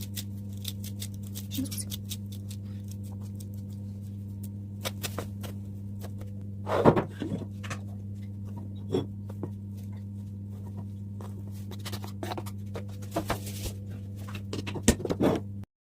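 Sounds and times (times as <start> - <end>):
steady low hum: 0.0 - 15.7.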